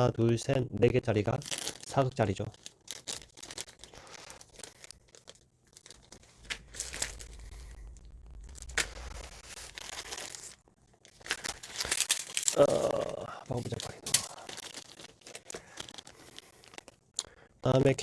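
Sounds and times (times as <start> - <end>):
plastic packaging crinkling: 0.0 - 12.7, 13.4 - 17.1.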